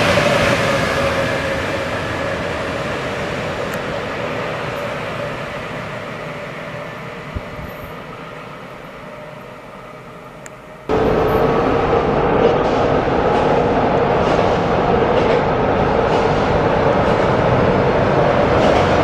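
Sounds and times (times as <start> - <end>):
electric locomotive rumble and hum: 0.0 - 19.0
train wheels rumbling: 0.0 - 19.0.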